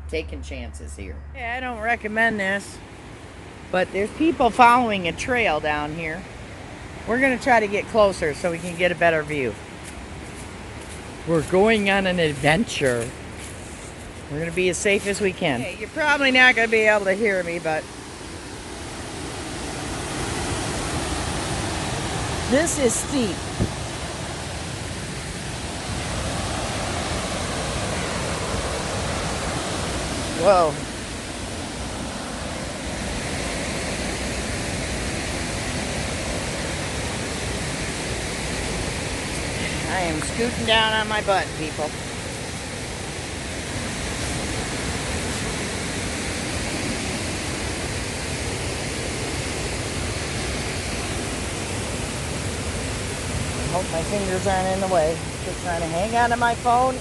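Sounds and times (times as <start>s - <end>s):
waterfall roaring: 1.5s - 57.0s.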